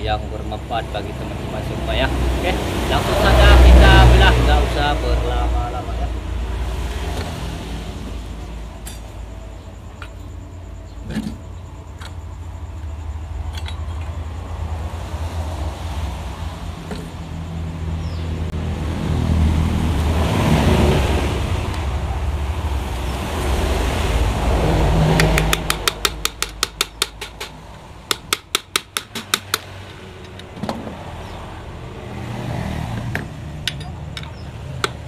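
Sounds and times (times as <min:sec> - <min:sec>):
vehicle engine rumble: 0:00.0 - 0:35.0.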